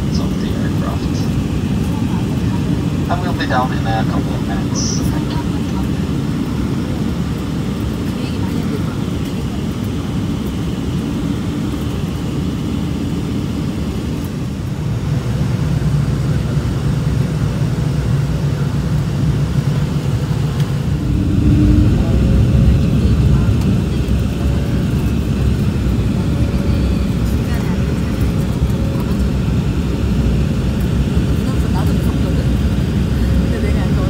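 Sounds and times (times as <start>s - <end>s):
airliner cabin rumble: 0.0s - 34.0s
faint steady engine tone: 0.0s - 34.0s.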